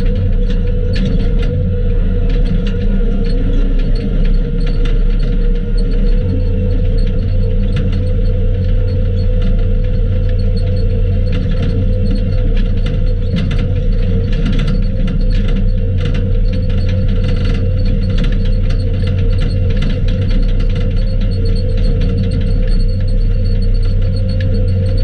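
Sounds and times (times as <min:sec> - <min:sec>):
low hum: 0:00.0 - 0:25.0
skid steer engine running: 0:00.0 - 0:25.0.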